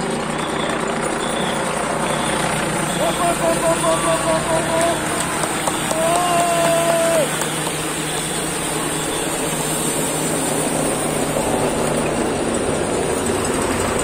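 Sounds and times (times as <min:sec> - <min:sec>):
motorcycles passing: 0:00.0 - 0:14.0
racing bicycles passing: 0:00.0 - 0:14.0.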